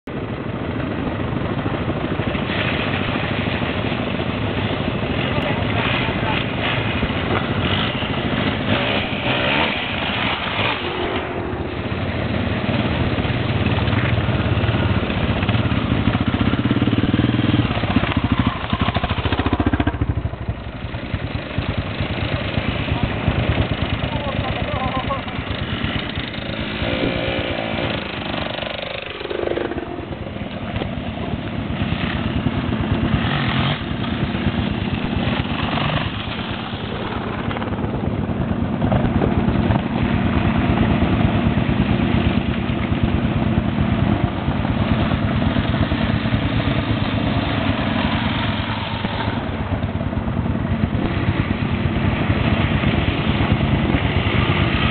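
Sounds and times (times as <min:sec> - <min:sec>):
motorcycle engine revving: 0:01.3 - 0:54.9.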